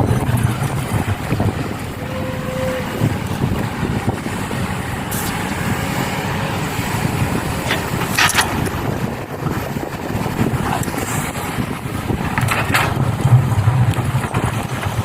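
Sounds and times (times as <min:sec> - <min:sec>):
excavator engine rumbling: 0:00.0 - 0:15.0.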